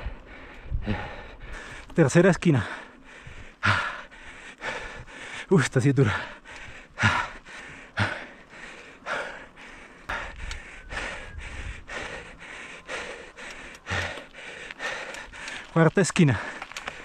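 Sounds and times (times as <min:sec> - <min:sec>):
person breathing hard: 0:00.0 - 0:02.0, 0:02.6 - 0:17.0.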